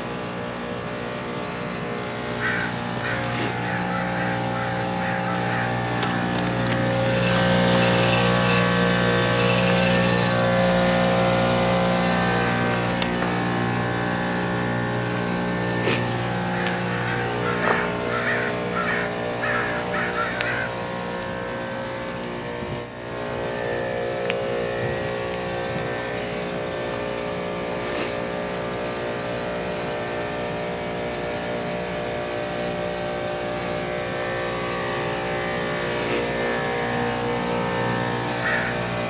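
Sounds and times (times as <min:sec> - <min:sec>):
heat pump machine hum: 0:00.0 - 0:39.0.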